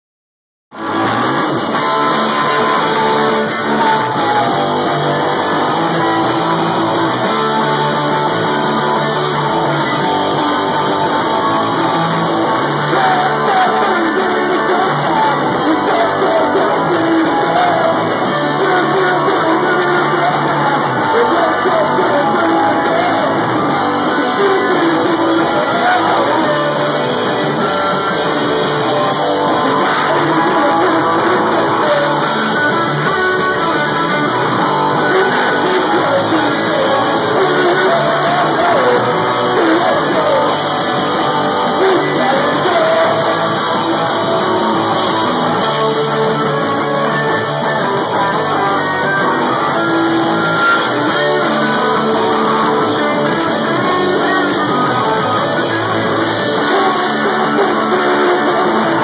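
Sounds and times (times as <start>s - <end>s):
electric guitar: 0.7s - 59.0s
rock band playing live: 0.7s - 59.0s
person singing: 1.6s - 59.0s.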